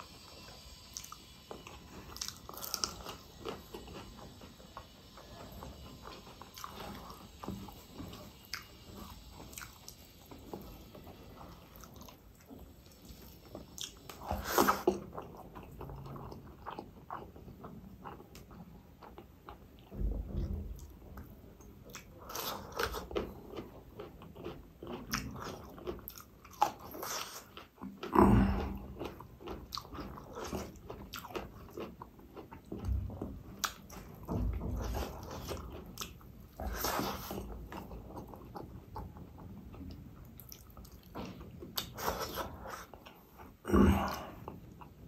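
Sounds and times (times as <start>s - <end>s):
chewing rice: 0.0s - 45.0s.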